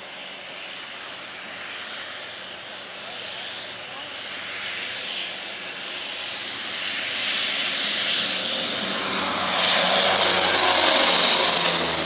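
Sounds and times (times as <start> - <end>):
low-flying propeller plane: 0.0 - 12.0.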